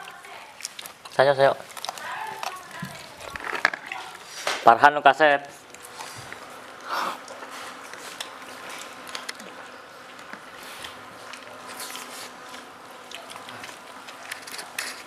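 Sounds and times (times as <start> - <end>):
faint buzzing hum: 0.0 - 15.0
hands and food clicking and rustling: 0.0 - 15.0.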